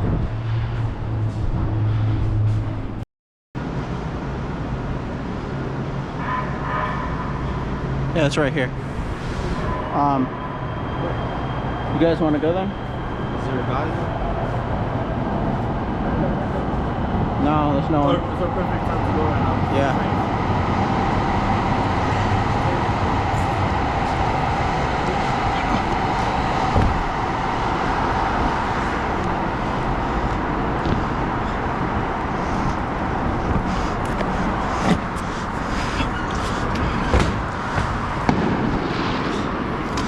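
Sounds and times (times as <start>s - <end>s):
city traffic noise: 0.0s - 3.0s, 3.6s - 40.0s.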